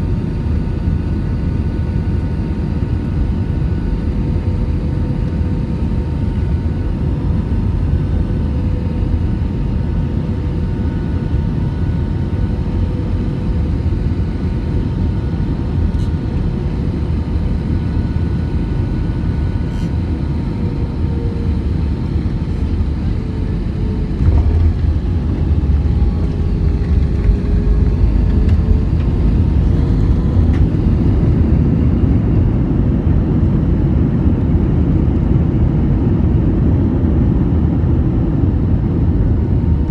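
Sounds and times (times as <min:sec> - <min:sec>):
jet engine and airflow rumble: 0:00.0 - 0:39.9
landing rumble on runway: 0:00.0 - 0:39.9.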